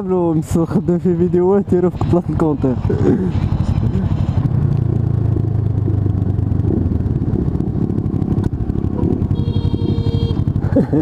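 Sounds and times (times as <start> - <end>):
motorcycle engine running: 0.1 - 11.0.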